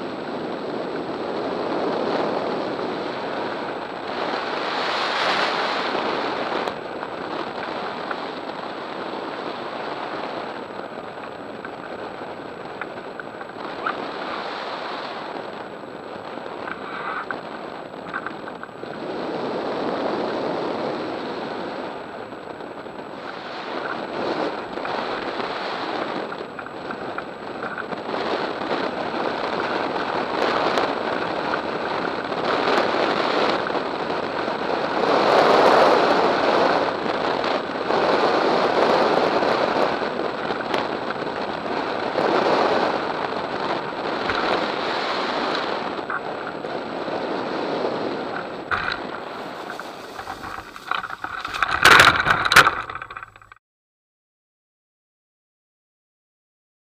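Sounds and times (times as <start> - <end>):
wind rushing on microphone: 0.0 - 53.6.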